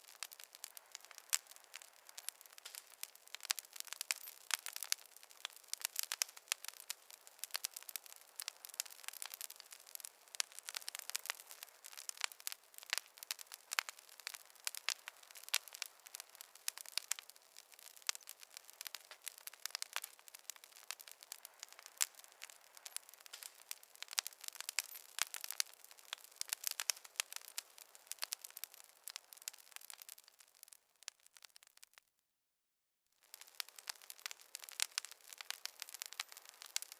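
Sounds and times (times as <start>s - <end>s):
wood fire crackling: 0.0s - 32.0s, 33.2s - 36.9s.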